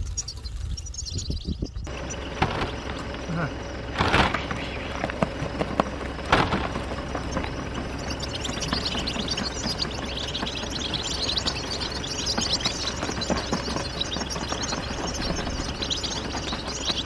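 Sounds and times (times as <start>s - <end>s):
goldfinches chirping: 0.0s - 17.0s.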